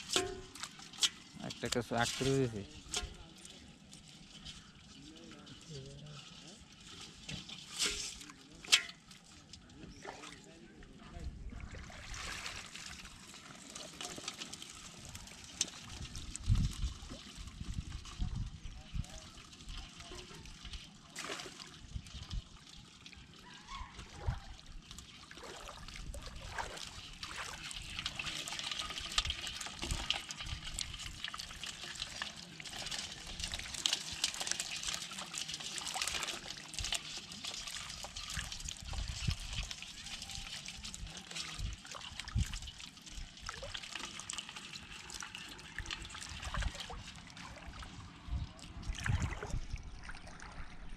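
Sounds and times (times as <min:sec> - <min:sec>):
shallow water trickling and splashing: 0:00.0 - 0:50.9.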